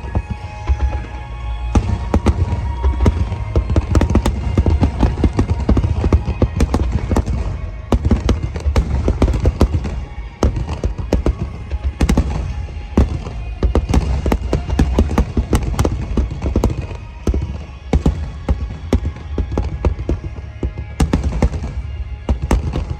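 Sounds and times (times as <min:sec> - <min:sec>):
continuous low rumble: 0:00.0 - 0:22.9
fireworks bursting with sharp bangs: 0:00.0 - 0:22.9
music playing: 0:00.0 - 0:22.9.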